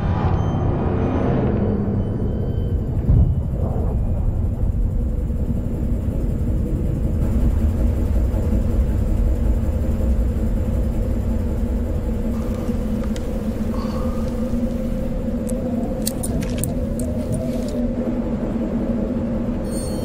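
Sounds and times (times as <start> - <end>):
deep rumbling drone: 0.0 - 20.0
low hum: 0.0 - 20.0.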